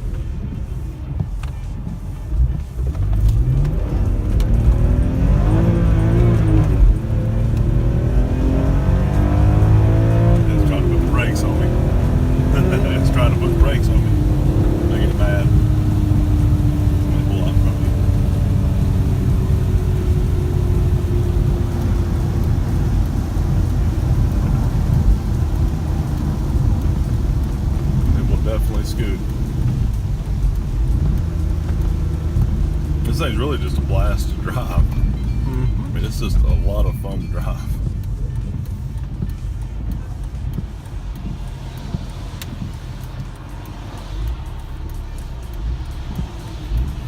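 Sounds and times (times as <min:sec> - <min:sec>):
car engine cruising: 0:00.0 - 0:47.0
road noise drone: 0:00.0 - 0:47.0.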